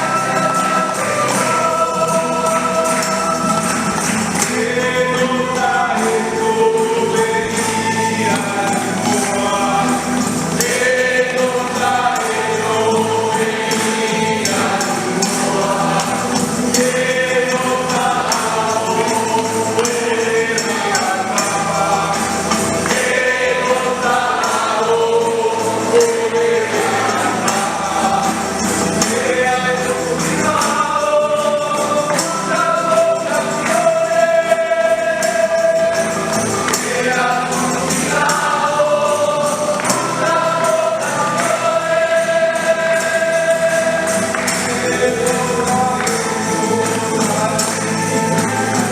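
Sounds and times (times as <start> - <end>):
choir singing a hymn: 0.0 - 48.9
tambourine shaking: 0.0 - 48.9.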